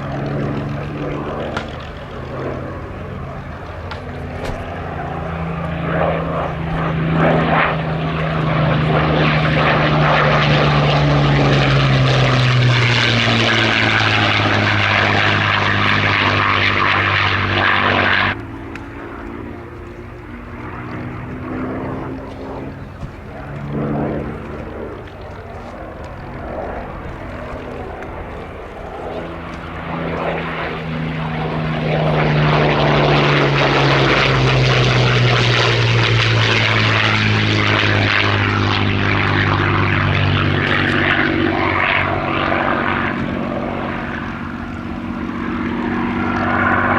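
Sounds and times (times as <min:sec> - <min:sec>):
distant plane engine: 0:00.0 - 0:46.9
propeller plane engine flying past: 0:00.0 - 0:46.9.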